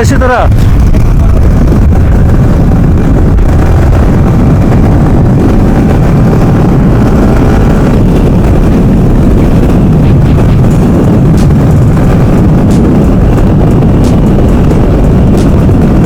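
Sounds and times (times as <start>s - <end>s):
motorcycle engine running: 0.0s - 16.0s
road noise: 0.0s - 16.0s
wind rush: 0.0s - 16.0s.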